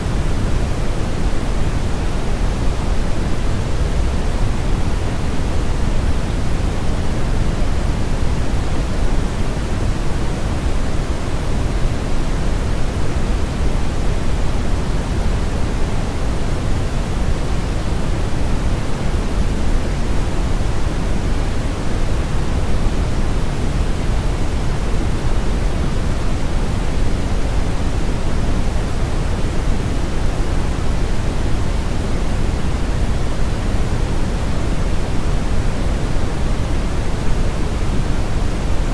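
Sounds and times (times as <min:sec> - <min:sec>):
brown noise hiss: 0:00.0 - 0:38.9.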